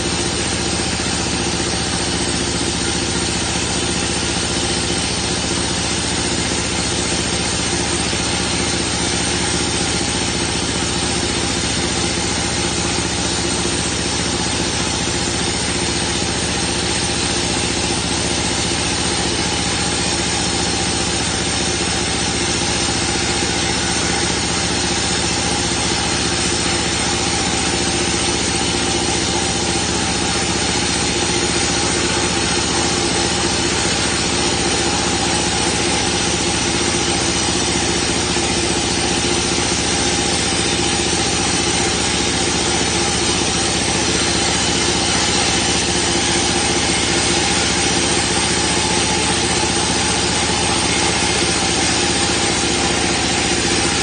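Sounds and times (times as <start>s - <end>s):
band sawmill engine running: 0.0s - 54.0s.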